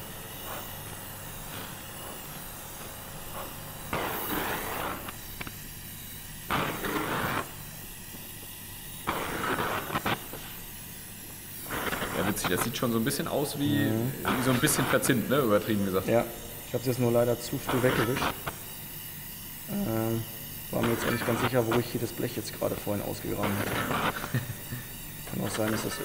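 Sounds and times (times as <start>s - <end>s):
torch flame rushing: 0.0s - 26.0s
welding torch flame hissing: 0.0s - 26.0s.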